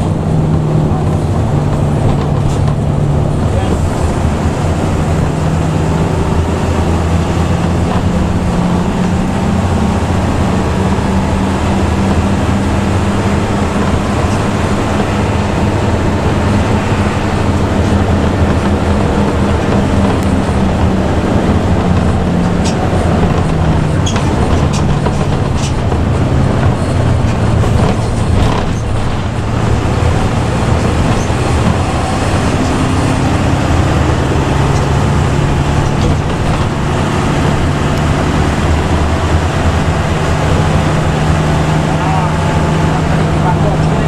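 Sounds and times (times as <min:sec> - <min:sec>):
bus engine and exhaust drone: 0:00.0 - 0:44.0
road noise: 0:00.0 - 0:44.0.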